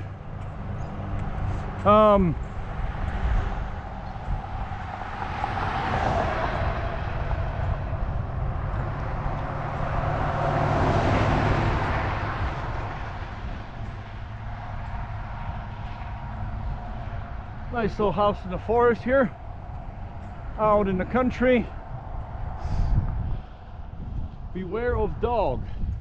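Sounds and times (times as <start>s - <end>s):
road and wind noise: 0.0s - 26.0s.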